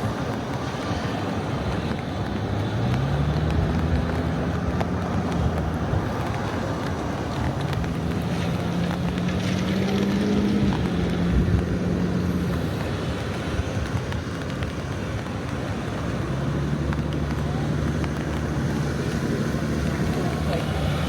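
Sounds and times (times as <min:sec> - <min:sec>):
steady rush of traffic: 0:00.0 - 0:21.0
vehicle engine humming: 0:00.0 - 0:21.0.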